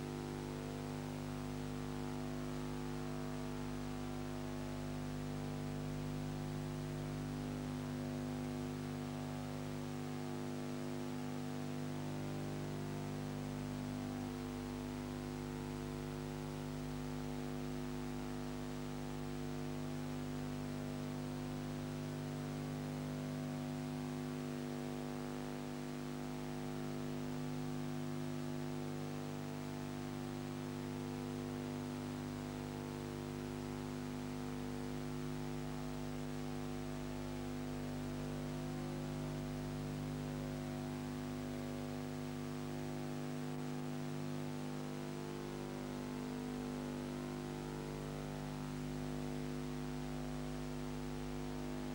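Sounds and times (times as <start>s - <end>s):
electrical mains hum: 0.0s - 51.9s.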